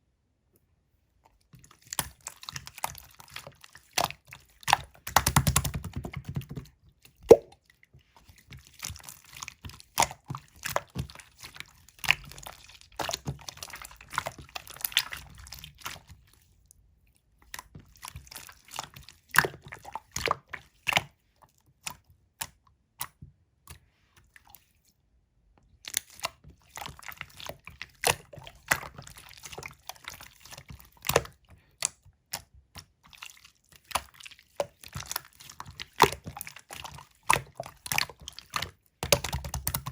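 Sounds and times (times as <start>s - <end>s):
slime squishing by hand: 1.4s - 7.6s, 8.2s - 16.6s, 17.2s - 24.8s, 25.8s - 39.9s.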